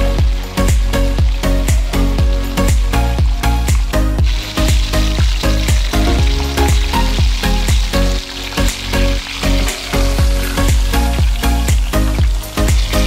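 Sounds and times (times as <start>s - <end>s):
background music with beat: 0.0s - 13.0s
chicken frying in hot oil: 0.0s - 13.0s.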